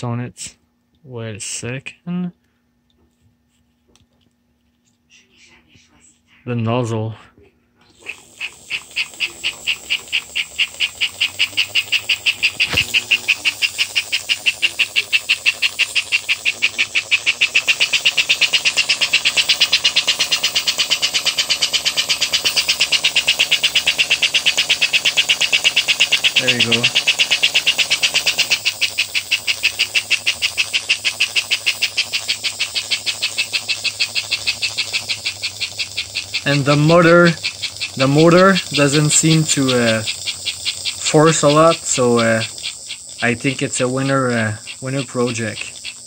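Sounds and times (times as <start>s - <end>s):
model train chuffing: 7.9s - 46.0s.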